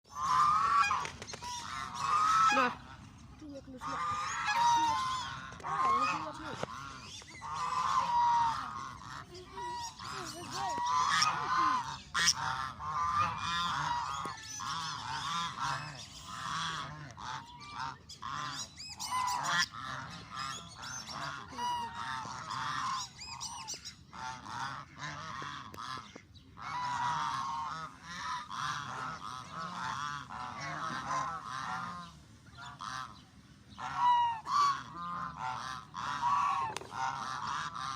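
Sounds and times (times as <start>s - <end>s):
geese honking: 0.1s - 37.9s.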